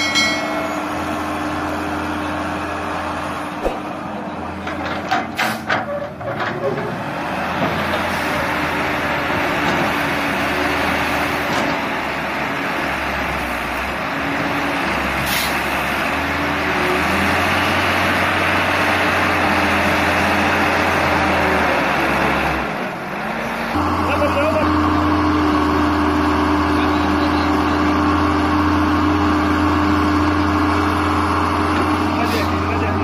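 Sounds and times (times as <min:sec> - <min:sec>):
excavator diesel engine under load: 0:00.0 - 0:33.0.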